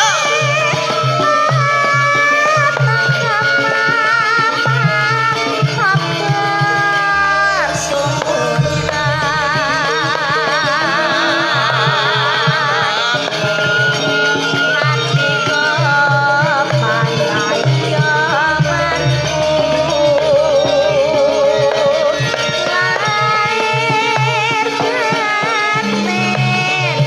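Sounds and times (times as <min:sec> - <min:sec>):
hand-drum beats: 0:00.0 - 0:27.0
woman singing: 0:00.0 - 0:27.0.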